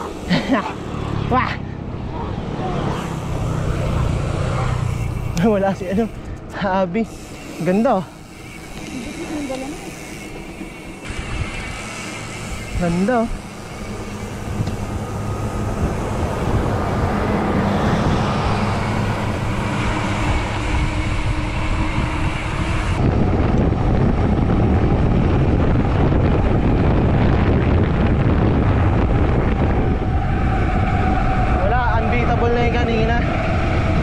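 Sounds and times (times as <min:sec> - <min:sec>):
road and traffic noise: 0:00.0 - 0:34.0
wind rumbling on microphone: 0:00.0 - 0:34.0.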